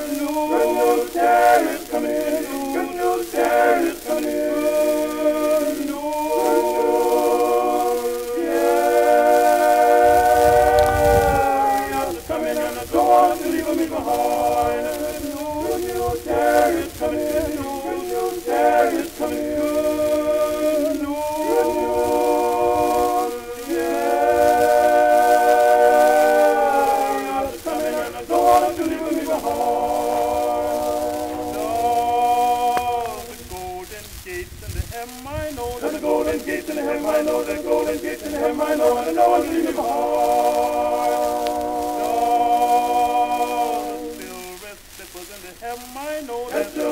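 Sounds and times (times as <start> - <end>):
choir singing in harmony: 0.0 - 34.1, 35.4 - 44.8, 45.6 - 46.9.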